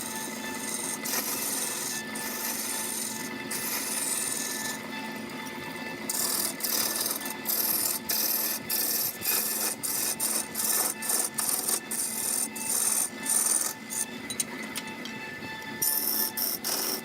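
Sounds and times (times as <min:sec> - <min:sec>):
tool rasping on wood: 0:00.0 - 0:05.3, 0:06.0 - 0:14.1, 0:15.8 - 0:17.0
faint machine hum: 0:00.0 - 0:17.0.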